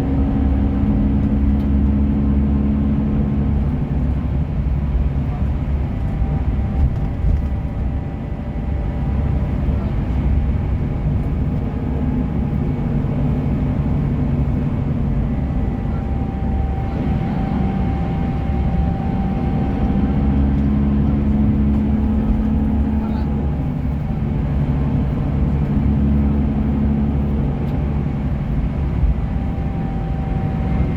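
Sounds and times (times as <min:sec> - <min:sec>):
bus diesel engine humming: 0:00.0 - 0:30.9.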